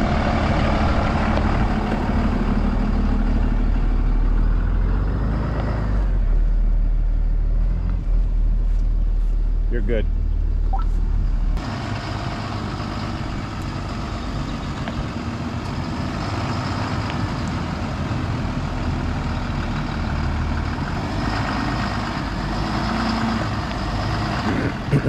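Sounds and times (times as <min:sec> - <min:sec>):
motorhome engine running: 0:00.0 - 0:25.0.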